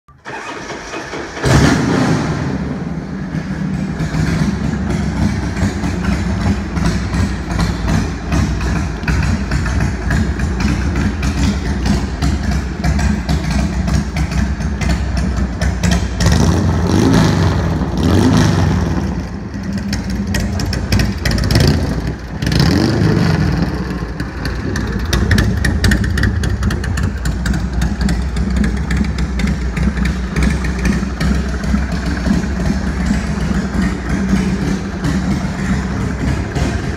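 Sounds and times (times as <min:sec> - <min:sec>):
motorcycle engine idling and revving: 0:00.1 - 0:36.9.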